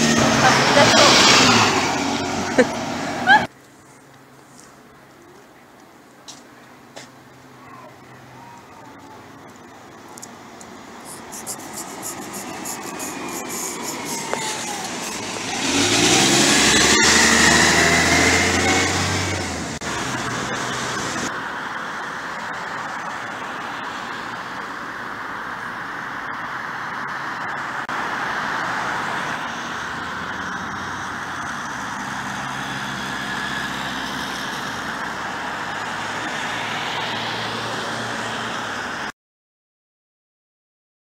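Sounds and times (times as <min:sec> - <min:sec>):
buses and cars passing: 0:00.0 - 0:39.1.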